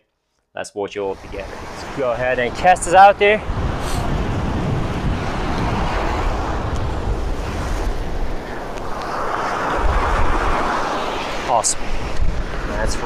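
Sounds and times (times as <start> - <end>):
surf washing onto beach: 1.1 - 13.0
wind buffeting microphone: 1.1 - 13.0.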